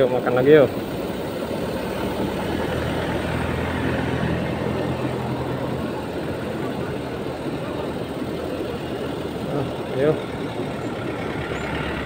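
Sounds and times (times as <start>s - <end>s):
engine idling: 0.0s - 12.0s
steady rushing noise: 0.0s - 12.0s.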